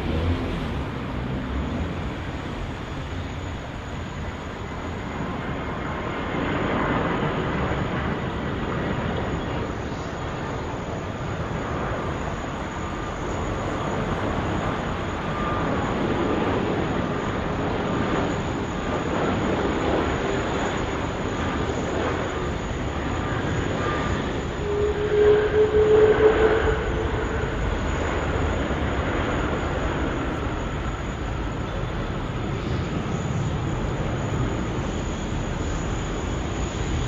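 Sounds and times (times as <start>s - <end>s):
faint whine: 0.0s - 37.0s
jet engines roaring: 0.0s - 37.0s.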